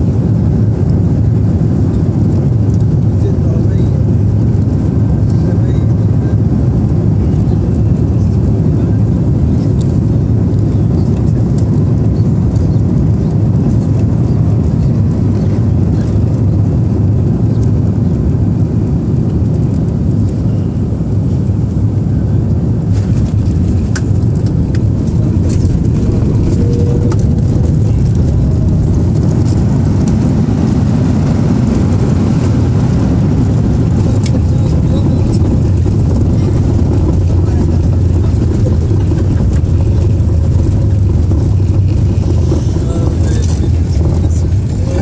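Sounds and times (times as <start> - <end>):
airplane cabin engine rumble: 0.0 - 45.0.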